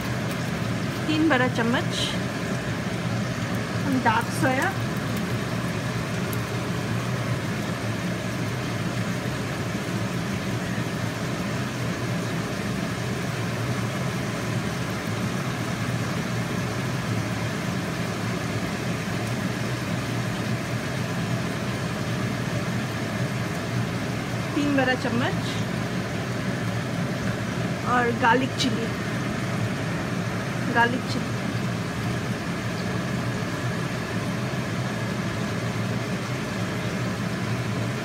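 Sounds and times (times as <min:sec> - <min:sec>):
food sizzling in a wok: 0:00.0 - 0:38.0
steady low hum: 0:00.0 - 0:38.0.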